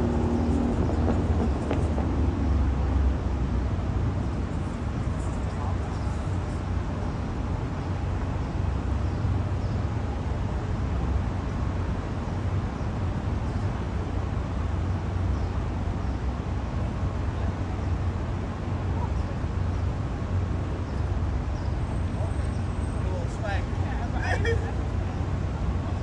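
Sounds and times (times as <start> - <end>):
low city rumble: 0.0 - 26.0.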